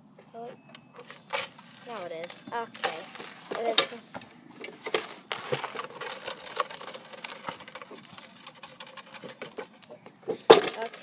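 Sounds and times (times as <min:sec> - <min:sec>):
rustling: 0:00.2 - 0:11.0.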